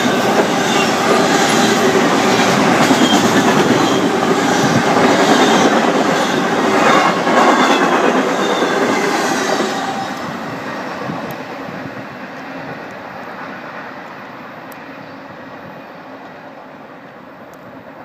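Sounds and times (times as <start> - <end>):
freight train rushing past: 0.0 - 18.0.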